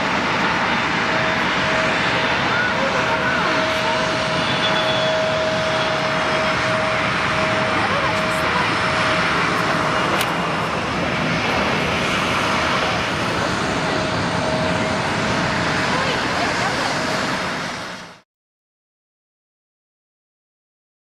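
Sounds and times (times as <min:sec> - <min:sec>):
jet engine noise: 0:00.0 - 0:18.2.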